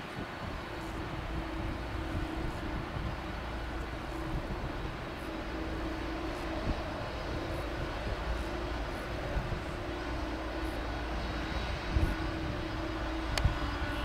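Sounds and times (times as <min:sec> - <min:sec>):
jet engines taxiing: 0:00.0 - 0:14.0.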